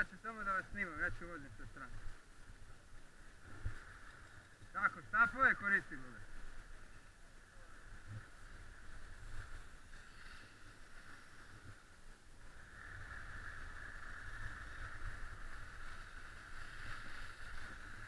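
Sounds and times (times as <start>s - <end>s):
skis sliding over snow: 0.0s - 18.0s.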